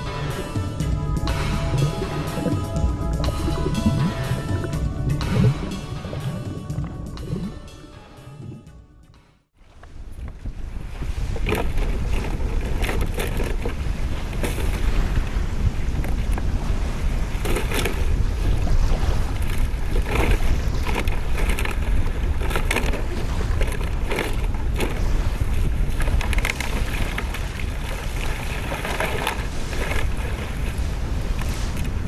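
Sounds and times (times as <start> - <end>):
wind buffeting microphone: 0.0 - 7.8, 9.6 - 32.0
waves lapping shore: 0.0 - 8.4, 9.6 - 32.0.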